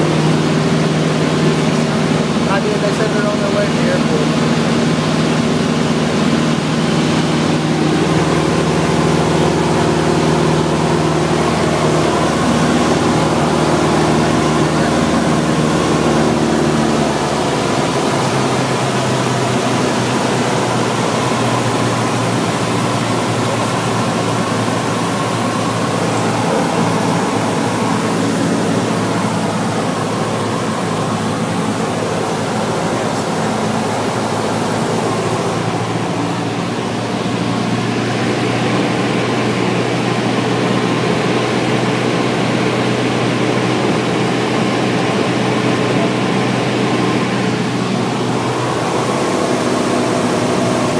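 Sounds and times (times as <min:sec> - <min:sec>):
propeller aircraft engine droning: 0:00.0 - 0:50.9.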